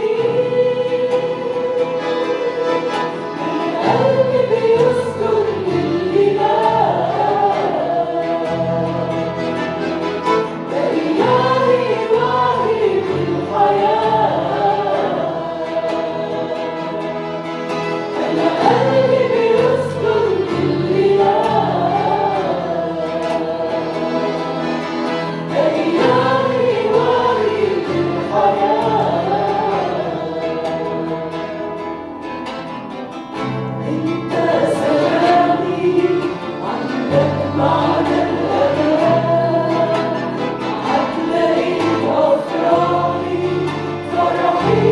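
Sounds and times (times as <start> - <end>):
group singing worship song: 0.0 - 32.0, 33.5 - 44.9.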